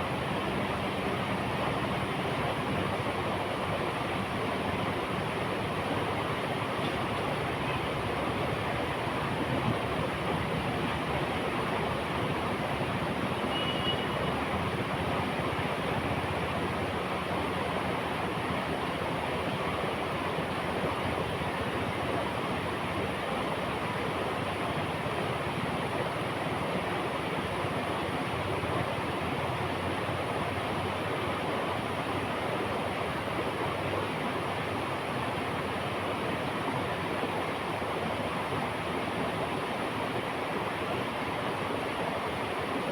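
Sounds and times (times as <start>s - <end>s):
river flowing: 0.0s - 42.9s.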